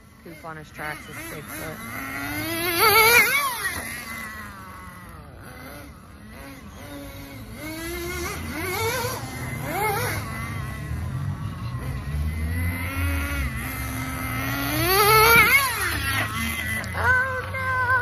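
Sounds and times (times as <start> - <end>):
rc truck engine revving: 0.0 - 18.0.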